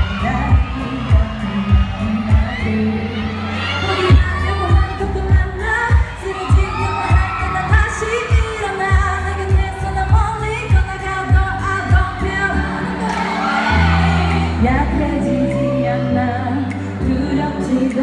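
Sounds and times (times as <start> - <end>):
pop backing track: 0.0 - 18.0
woman singing into microphone: 0.0 - 18.0.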